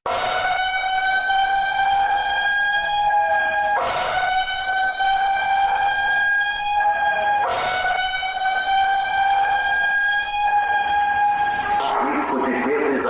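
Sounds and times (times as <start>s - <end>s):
horn-like electronic alarm tone: 0.1s - 13.0s.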